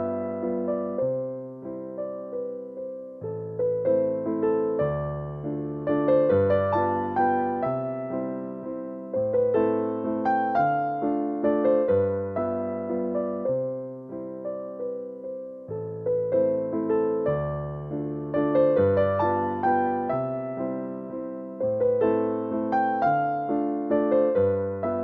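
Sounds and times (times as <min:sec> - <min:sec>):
soft electric piano melody: 0:00.0 - 0:25.0.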